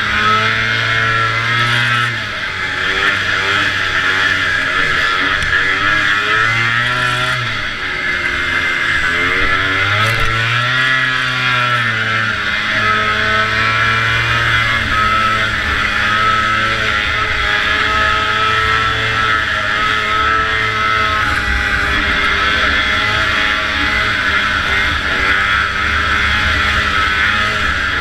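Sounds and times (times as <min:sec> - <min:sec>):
snowmobile engine running hard: 0:00.0 - 0:28.0.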